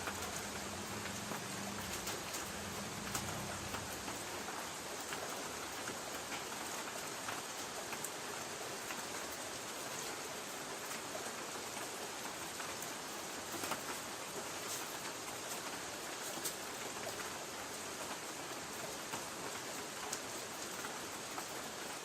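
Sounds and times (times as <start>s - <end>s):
rain on a tin roof: 0.0s - 22.0s.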